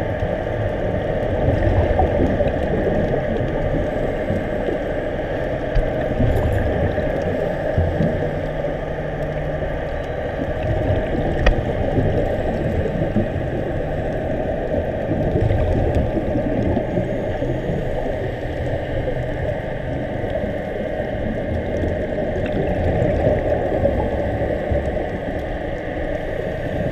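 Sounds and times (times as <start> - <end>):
underwater rumble and wash: 0.0 - 26.9.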